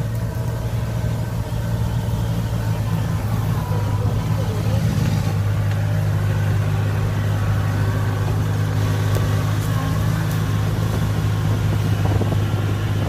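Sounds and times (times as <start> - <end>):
diesel engine running: 0.0 - 13.0
machine crawling on tracks: 0.0 - 13.0.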